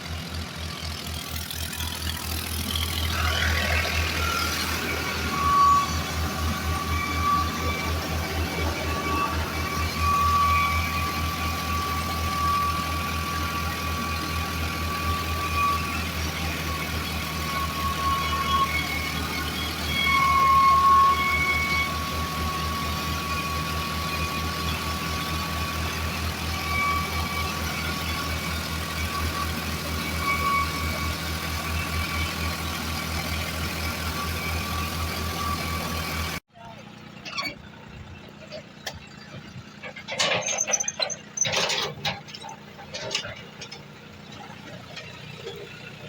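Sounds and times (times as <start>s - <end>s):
tractor diesel engine throbbing: 0.0s - 46.0s.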